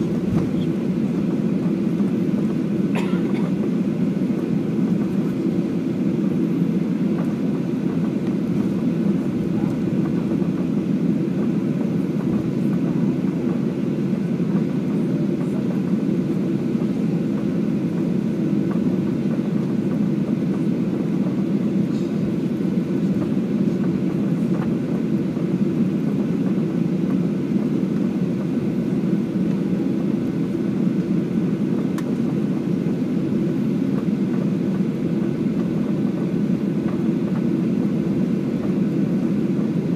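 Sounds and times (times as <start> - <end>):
low rumble in airliner cabin: 0.0 - 39.9.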